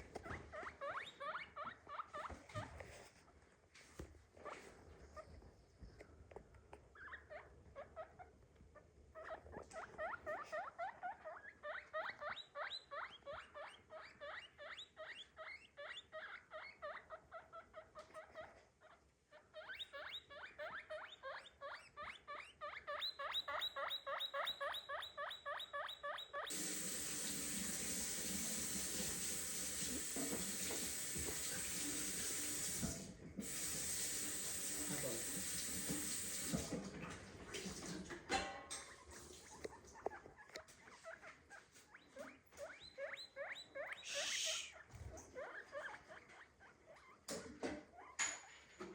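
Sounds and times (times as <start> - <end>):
guinea pig squeaking: 0.0 - 2.8, 6.8 - 36.6, 38.7 - 48.4.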